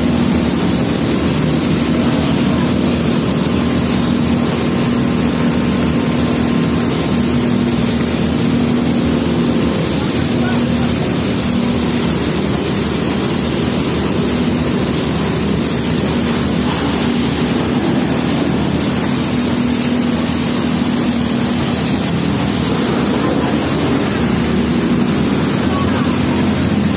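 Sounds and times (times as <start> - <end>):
engine droning: 0.0 - 26.9
steady rushing noise: 0.0 - 26.9.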